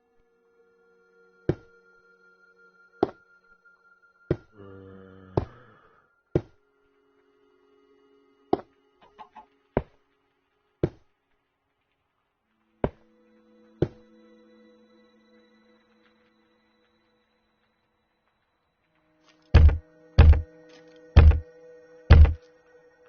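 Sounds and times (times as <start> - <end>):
faint steady tones: 0.0 - 23.0.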